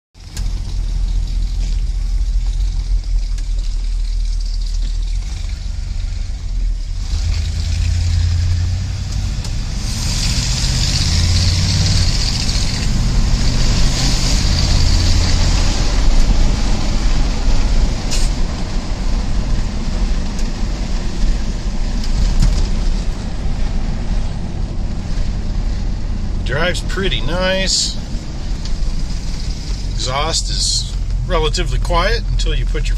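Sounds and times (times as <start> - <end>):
engine and exhaust rumble: 0.1 - 32.9
road noise: 0.2 - 32.9.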